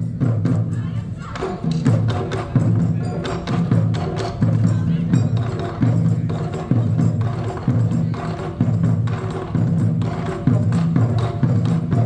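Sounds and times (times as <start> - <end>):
heavy low drum strokes: 0.0 - 12.0.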